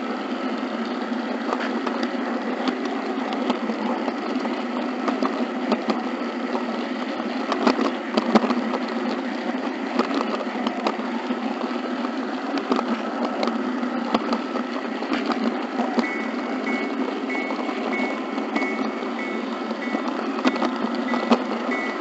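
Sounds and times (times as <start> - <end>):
model train running: 0.0 - 22.0
wheels clicking over rail joints: 0.0 - 22.0.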